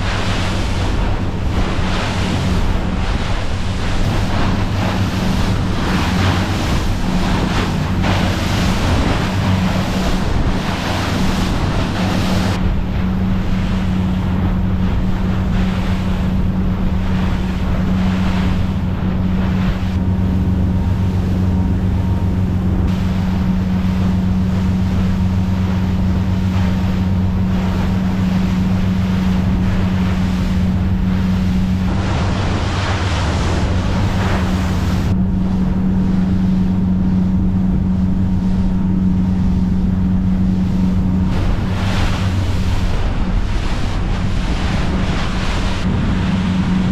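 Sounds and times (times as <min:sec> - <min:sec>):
motorboat engines droning: 0:00.0 - 0:46.9
water rushing against hull: 0:00.0 - 0:46.9
wind on microphone: 0:00.0 - 0:46.9.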